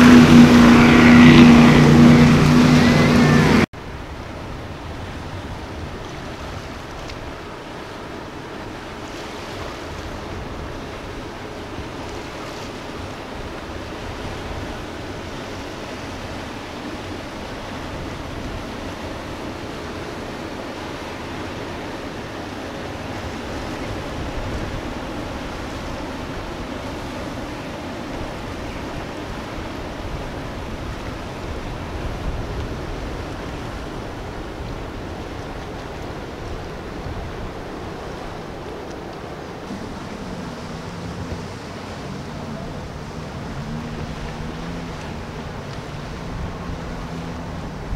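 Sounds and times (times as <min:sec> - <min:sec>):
wake churning water: 0:00.0 - 0:47.9
water and wind rushing: 0:00.0 - 0:47.9
yacht engine low rumble: 0:00.0 - 0:47.9.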